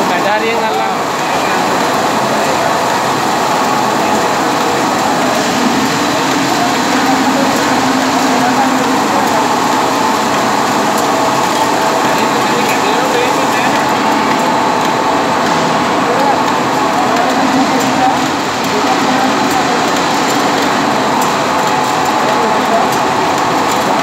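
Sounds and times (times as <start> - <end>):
loud machine running: 0.0 - 24.0.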